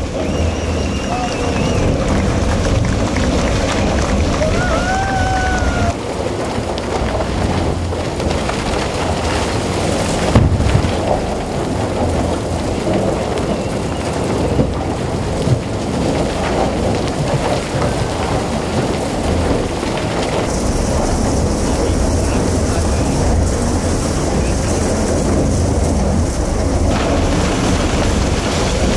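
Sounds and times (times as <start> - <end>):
tunnel boring machine grinding rock: 0.0 - 28.9
water hoses spraying: 0.0 - 28.9
rock crumbling and falling: 0.9 - 28.9.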